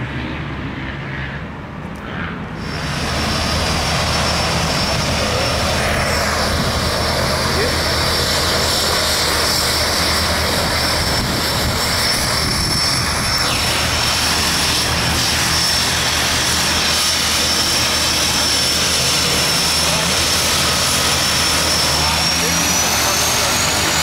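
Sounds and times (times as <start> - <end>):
high engine whine: 0.0 - 24.0
propeller airplane engine: 0.0 - 24.0.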